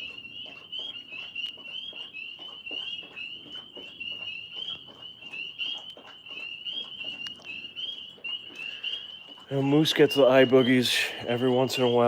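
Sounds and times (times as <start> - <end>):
frogs peeping: 0.0 - 12.0.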